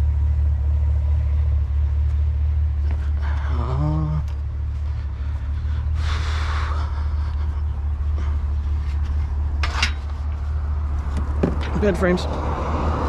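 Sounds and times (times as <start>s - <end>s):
truck engine running: 0.0s - 12.3s.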